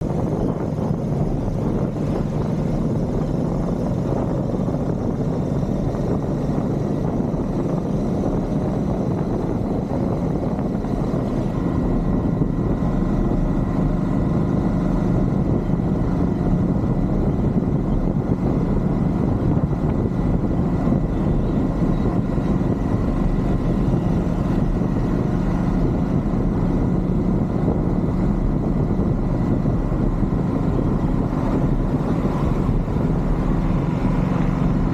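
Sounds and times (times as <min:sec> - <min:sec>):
motorcycle engine and exhaust: 0:00.0 - 0:34.9.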